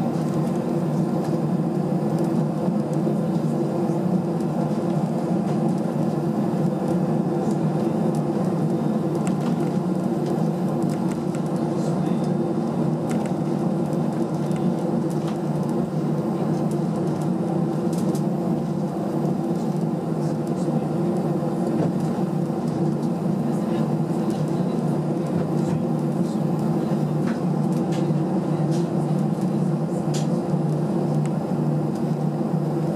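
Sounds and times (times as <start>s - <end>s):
jet engine hum inside cabin: 0.0s - 32.9s.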